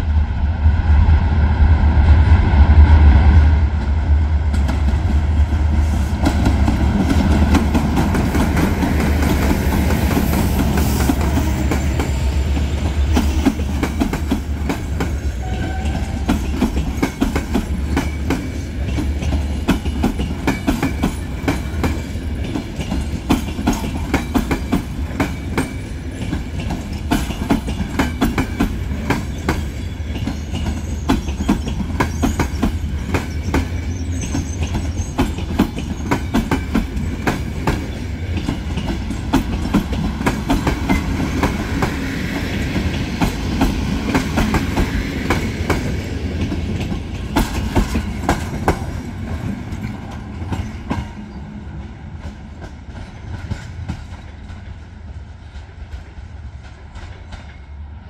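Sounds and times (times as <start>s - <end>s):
low rumble of passing train: 0.0s - 58.0s
train wheels clicking over rail joints: 4.5s - 51.4s.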